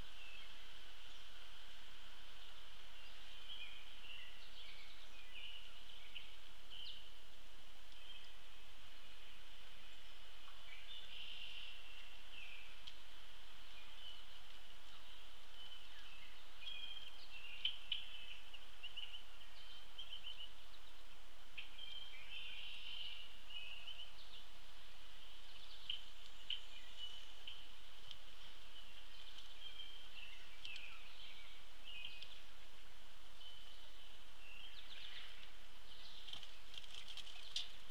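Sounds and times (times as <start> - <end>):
steady outdoor hiss: 0.0 - 37.9
birds chirping and trilling: 2.2 - 7.2, 7.9 - 37.9.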